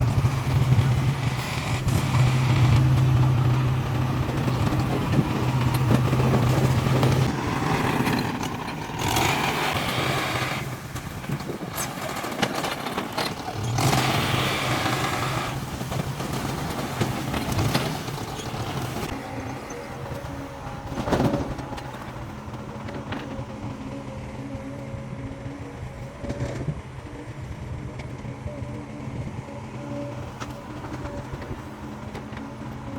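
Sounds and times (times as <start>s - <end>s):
diesel machinery engine hum: 0.0s - 32.9s.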